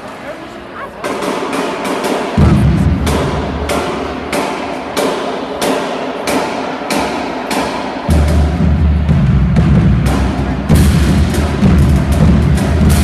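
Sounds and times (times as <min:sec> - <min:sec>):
drum hits: 0:01.0 - 0:13.0
marching band playing: 0:01.0 - 0:13.0.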